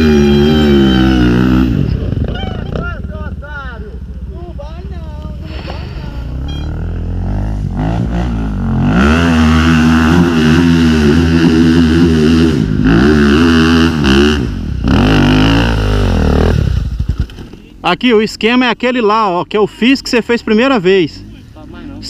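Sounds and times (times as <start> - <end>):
dirt bike engine revving: 0.0 - 18.6, 19.2 - 22.0.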